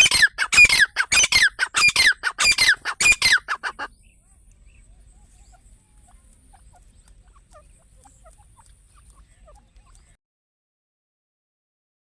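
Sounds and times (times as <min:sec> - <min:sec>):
faint bird chirps: 0:00.0 - 0:10.2.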